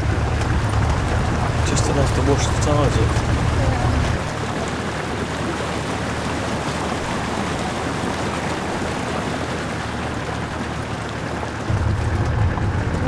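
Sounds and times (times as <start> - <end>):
low engine hum: 0.0 - 13.0
tyres splashing through water: 0.0 - 13.0.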